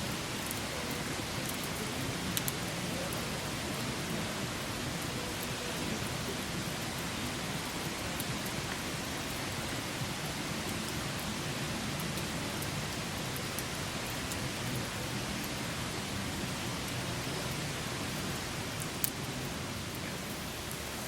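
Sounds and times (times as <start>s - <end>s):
campfire hissing: 0.0s - 21.0s
fire crackles and pops: 0.1s - 5.5s, 6.3s - 21.0s.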